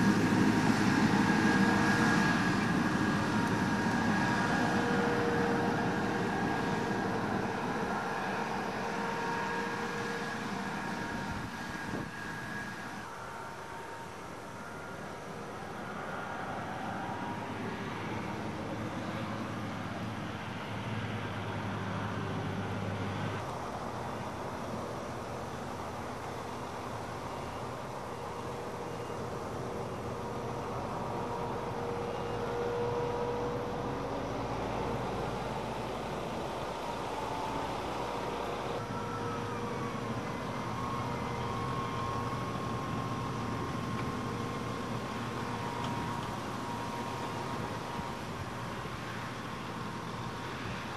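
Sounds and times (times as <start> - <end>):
combine harvester drone: 0.0 - 50.9
farm machinery engine running: 0.0 - 50.9.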